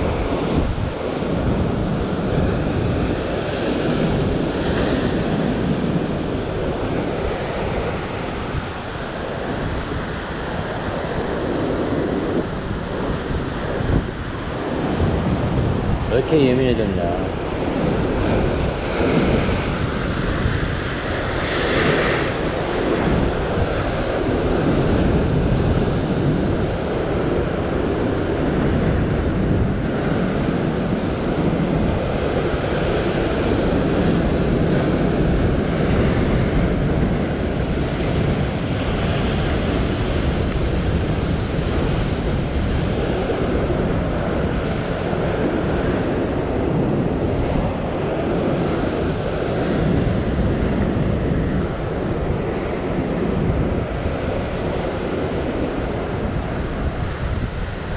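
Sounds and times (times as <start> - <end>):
ocean surf washing over rocks: 0.0 - 57.9
wind buffeting microphone: 0.0 - 57.9.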